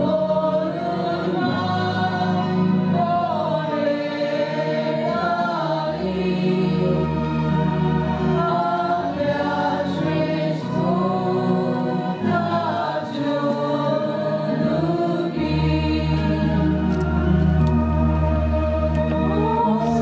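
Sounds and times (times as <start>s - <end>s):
choir singing a hymn: 0.0s - 20.0s
held low accompanying notes: 0.0s - 20.0s.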